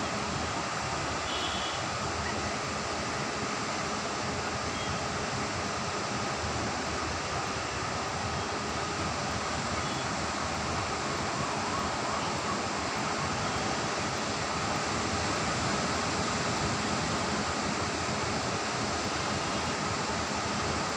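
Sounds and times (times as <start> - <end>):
sea surf washing on beach: 0.0 - 20.9.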